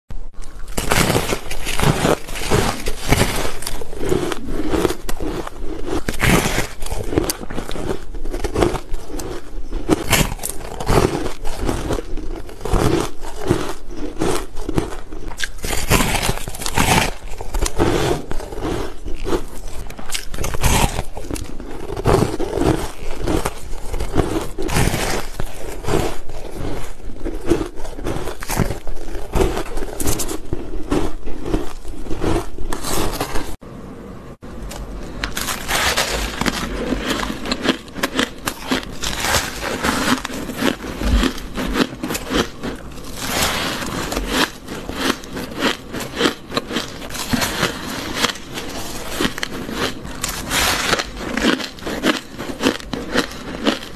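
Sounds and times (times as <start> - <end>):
crunchy chewing: 0.4 - 33.6, 34.7 - 53.9.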